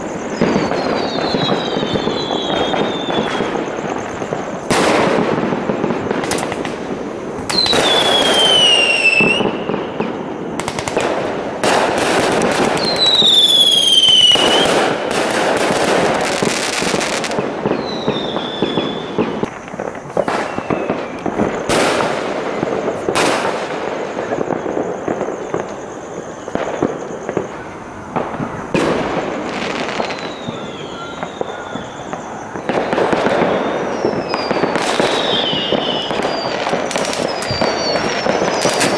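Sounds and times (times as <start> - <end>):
fireworks bangs and crackling: 0.0 - 38.9
whistling fireworks: 0.0 - 38.9.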